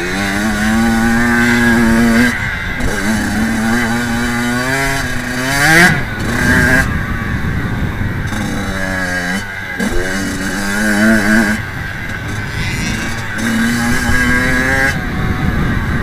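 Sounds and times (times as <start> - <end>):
motocross engine revving: 0.0 - 16.0.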